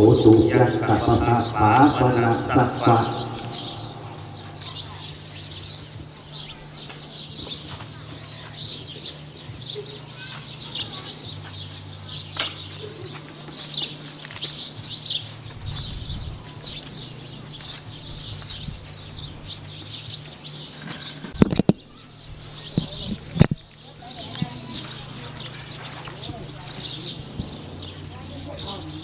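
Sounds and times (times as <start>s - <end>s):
small birds chirping: 0.0s - 29.0s
steady low hum: 0.0s - 29.0s.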